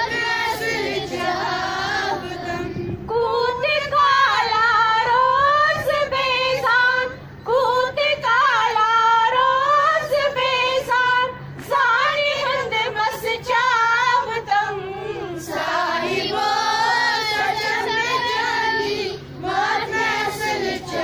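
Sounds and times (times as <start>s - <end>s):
women and girls singing together: 0.0s - 21.0s.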